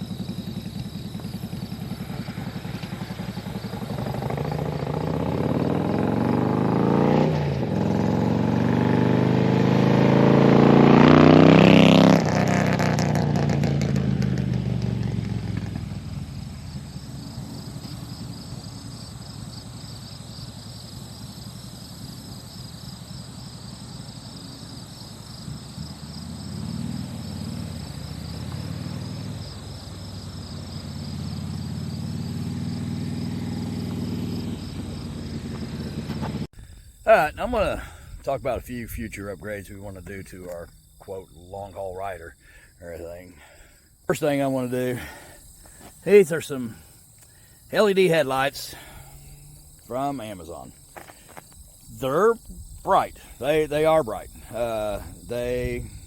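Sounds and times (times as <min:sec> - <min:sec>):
motorcycle engine revving: 0:00.0 - 0:39.2, 0:39.8 - 0:56.0.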